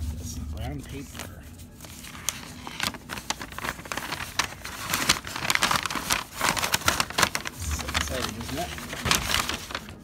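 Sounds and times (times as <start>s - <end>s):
paper packaging crinkling: 0.7s - 10.0s.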